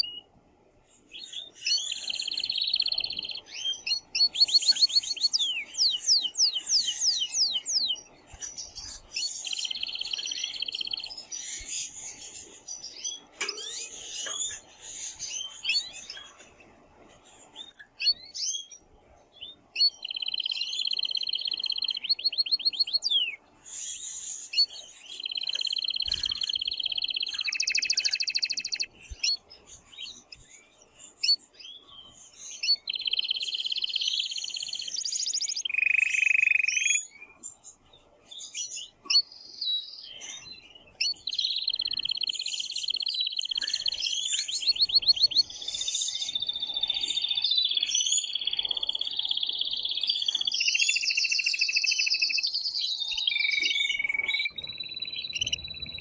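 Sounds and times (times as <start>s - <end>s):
canary singing trills: 0.0s - 0.3s, 1.0s - 56.0s.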